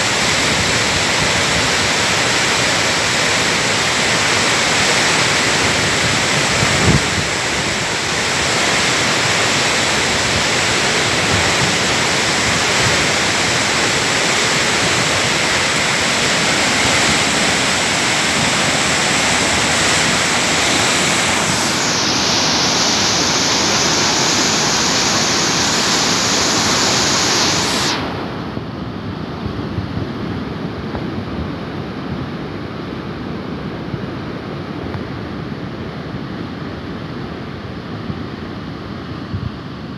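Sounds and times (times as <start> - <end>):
flooded river rushing: 0.0 - 39.9.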